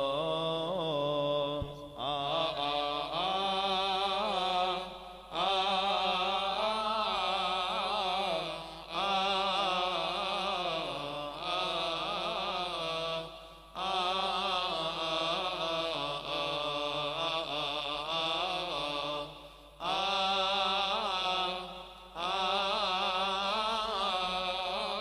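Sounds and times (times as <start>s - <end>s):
men chanting a hymn: 0.0s - 25.0s.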